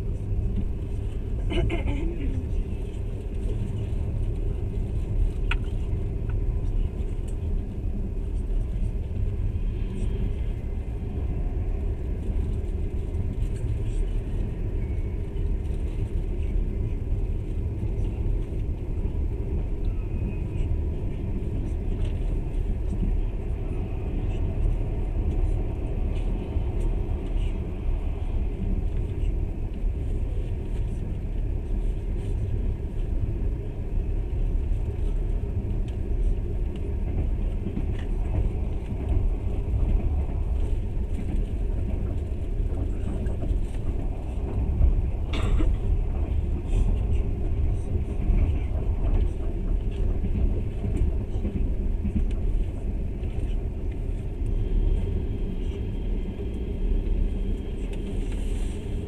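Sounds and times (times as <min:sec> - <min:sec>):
moving train rumble: 0:00.0 - 0:59.0.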